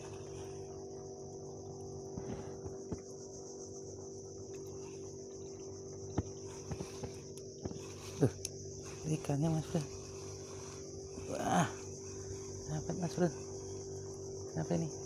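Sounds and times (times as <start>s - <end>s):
high-pitched insect chorus: 0.0s - 15.0s
low hum: 0.0s - 15.0s.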